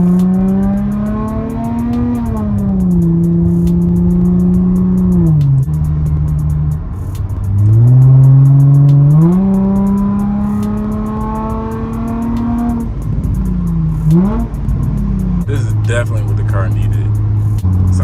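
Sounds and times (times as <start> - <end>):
car exhaust roaring: 0.0 - 18.0.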